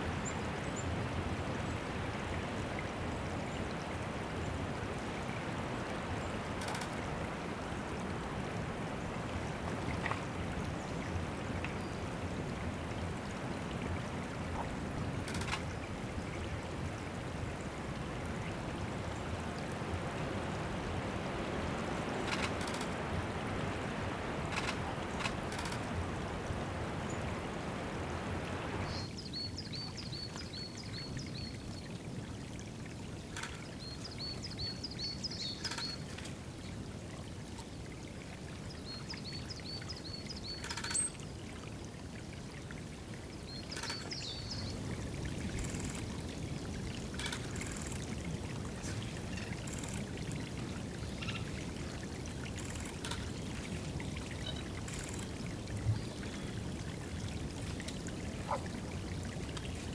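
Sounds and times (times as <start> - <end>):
water trickling: 0.2 - 59.9.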